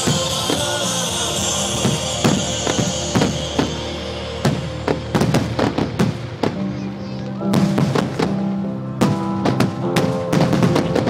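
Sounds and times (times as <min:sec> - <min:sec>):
music with sustained tones: 0:00.0 - 0:11.0.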